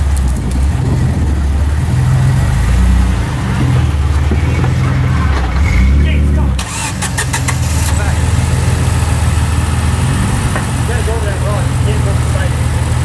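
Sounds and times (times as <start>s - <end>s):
pickup engine low rumble: 0.0s - 13.0s.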